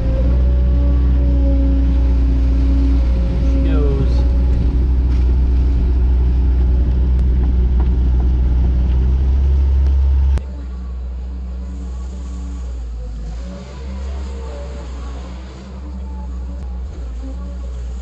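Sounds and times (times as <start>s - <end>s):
excavator diesel engine drone: 0.0s - 18.0s.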